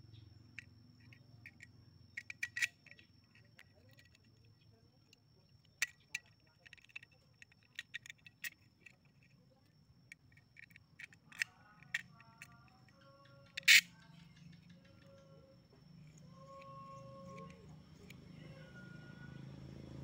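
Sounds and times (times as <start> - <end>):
metal parts clicking and scraping: 0.6 - 15.3, 16.0 - 18.6.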